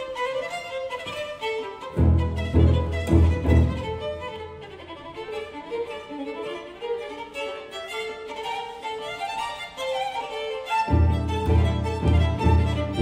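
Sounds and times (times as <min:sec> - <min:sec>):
classical string music: 0:00.0 - 0:13.0
violin melody: 0:00.0 - 0:13.0.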